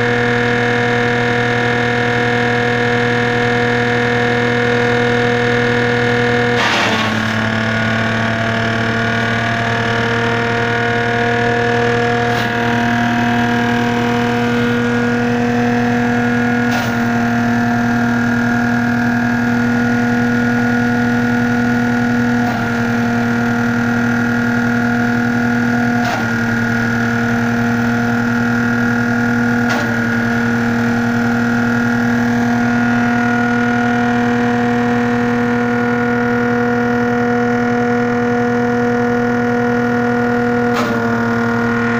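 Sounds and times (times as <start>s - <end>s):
shredder chopping dry fronds: 0.0s - 41.9s
tractor diesel engine running: 0.0s - 41.9s.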